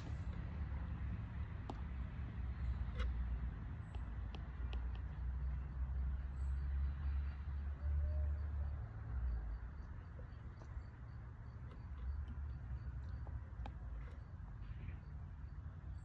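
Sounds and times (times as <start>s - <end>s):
faint clicks and chirps: 1.6s - 16.0s.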